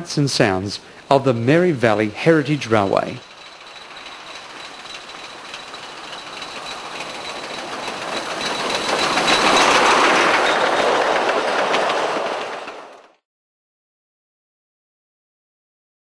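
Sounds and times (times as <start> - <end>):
train running on track: 0.0 - 13.2
wheels clicking over rail joints: 0.0 - 13.2.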